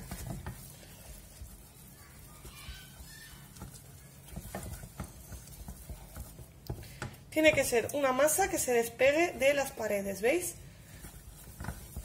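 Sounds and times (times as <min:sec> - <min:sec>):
wooden spoon stirring dough in pan: 0:00.0 - 0:12.0.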